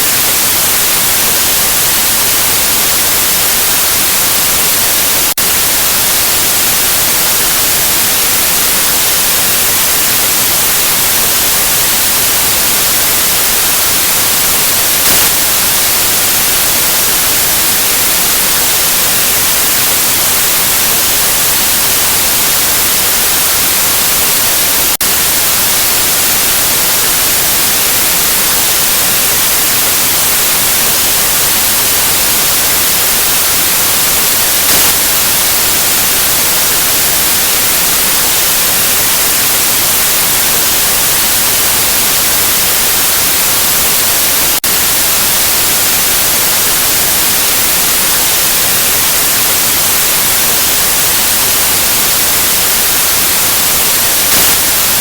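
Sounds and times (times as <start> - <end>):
white noise hiss: 0.0 - 55.0.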